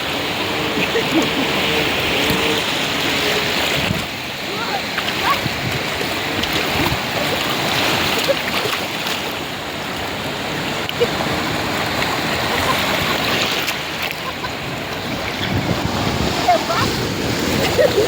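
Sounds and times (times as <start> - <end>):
sea water washing at the shore: 0.0 - 18.0.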